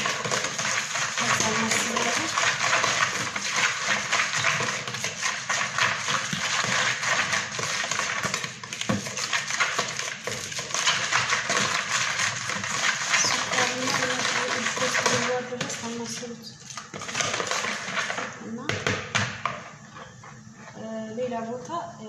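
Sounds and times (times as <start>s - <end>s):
dough scraping in plastic bowl: 0.0s - 21.4s.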